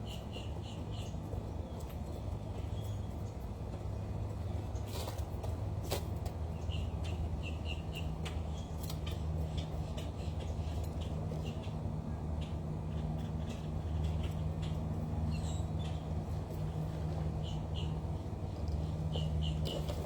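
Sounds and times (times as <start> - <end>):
small birds chirping: 0.0 - 5.2, 5.9 - 20.0
steady low hum: 0.0 - 20.0.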